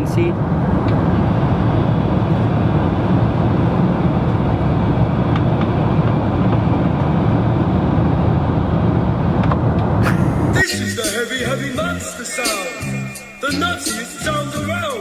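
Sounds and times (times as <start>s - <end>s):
airliner cabin drone: 0.0s - 14.6s.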